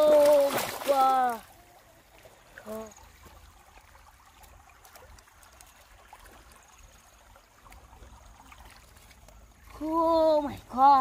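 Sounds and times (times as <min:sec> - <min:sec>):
river water lapping and trickling: 0:00.0 - 0:11.0.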